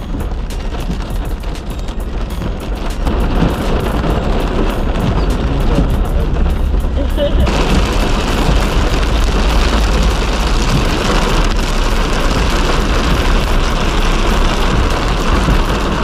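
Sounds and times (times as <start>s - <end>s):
low engine rumble: 0.0s - 16.0s
road and wind noise: 0.0s - 16.0s.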